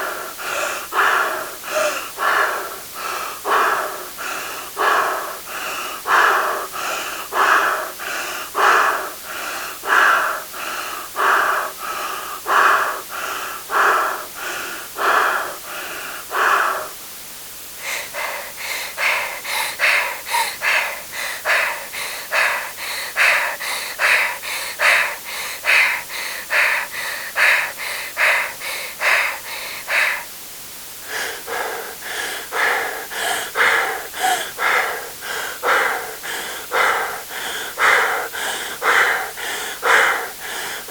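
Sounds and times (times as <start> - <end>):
person panting: 0.0 - 17.0, 17.8 - 30.3, 31.0 - 40.9.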